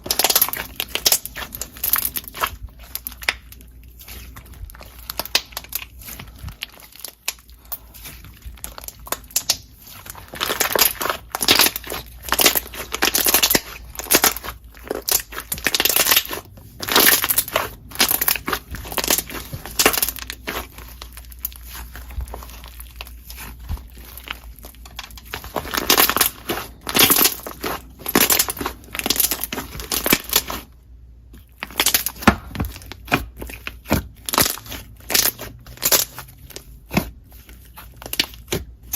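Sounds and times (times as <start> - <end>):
slime crackling and popping: 0.0 - 38.9.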